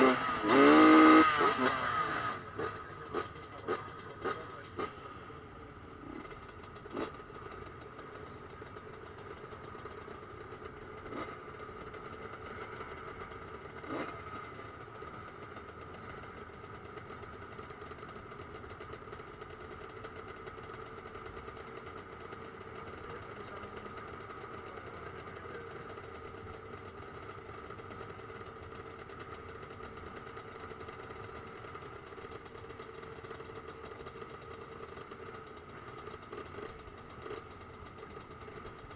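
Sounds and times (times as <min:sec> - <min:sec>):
motocross bike engines idling: 0:00.0 - 0:38.9.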